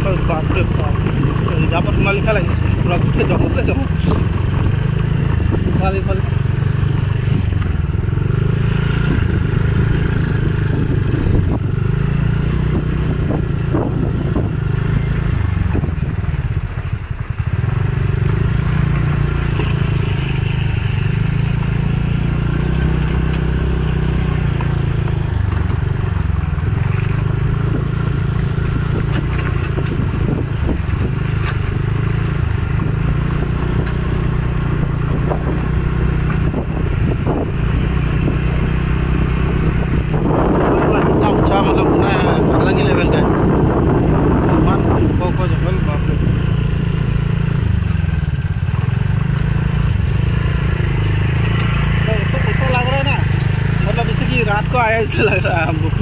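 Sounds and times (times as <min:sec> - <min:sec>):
motor scooter running: 0:00.0 - 0:56.0
wind rumbling on microphone: 0:00.0 - 0:56.0.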